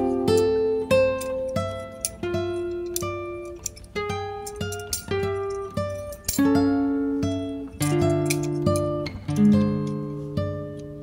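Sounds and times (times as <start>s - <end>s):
acoustic guitar picking: 0.0s - 11.0s.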